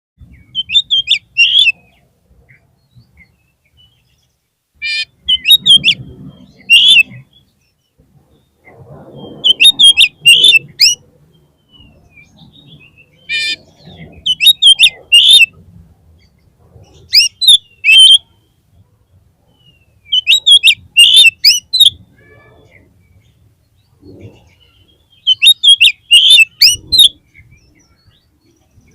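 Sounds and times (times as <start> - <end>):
bird calling whistles and rasps: 0.3 - 4.0, 4.8 - 15.6, 16.8 - 18.5, 19.4 - 28.9.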